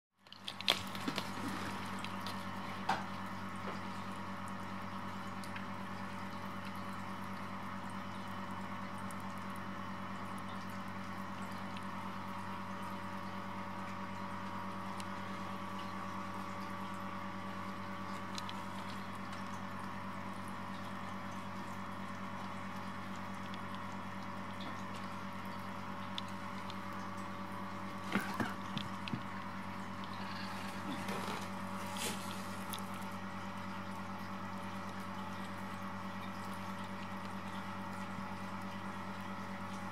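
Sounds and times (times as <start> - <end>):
steady low hum: 0.3 - 39.9.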